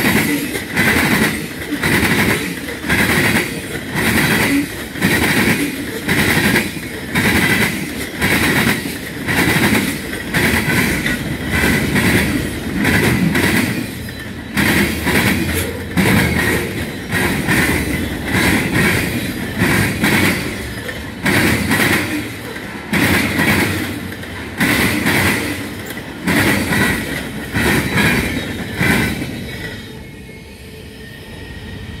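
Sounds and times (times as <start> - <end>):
train wheels clanking over crossing: 0.0 - 30.1
ringing rail: 0.0 - 32.0.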